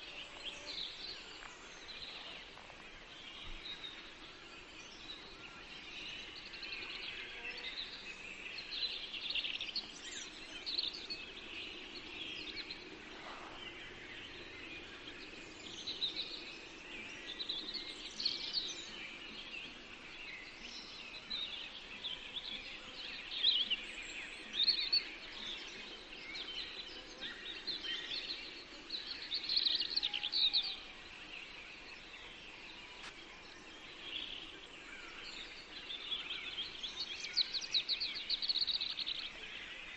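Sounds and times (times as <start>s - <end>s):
faint background hiss: 0.0s - 39.9s
songbirds singing and chirping: 0.0s - 39.9s.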